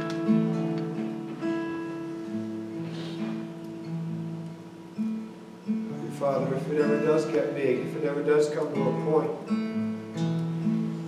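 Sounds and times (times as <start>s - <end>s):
acoustic guitar slow chords: 0.0s - 11.0s.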